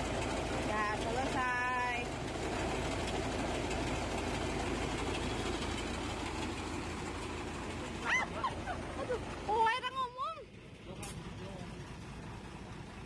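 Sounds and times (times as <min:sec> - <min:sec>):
truck engine and pump running: 0:00.0 - 0:13.0.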